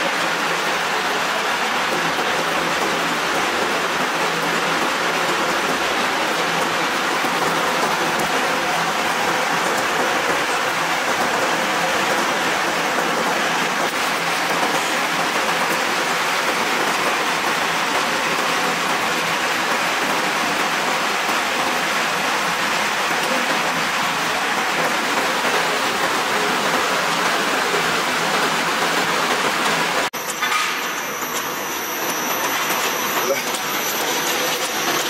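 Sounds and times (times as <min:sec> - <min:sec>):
machine noise with high whine: 0:00.0 - 0:35.0.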